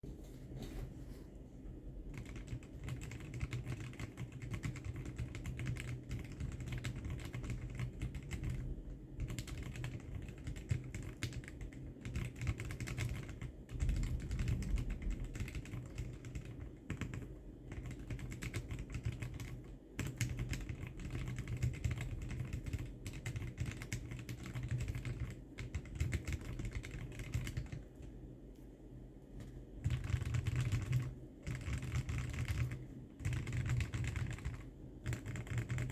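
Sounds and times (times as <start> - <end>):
mechanical keyboard typing: 2.1 - 28.1, 29.4 - 35.9.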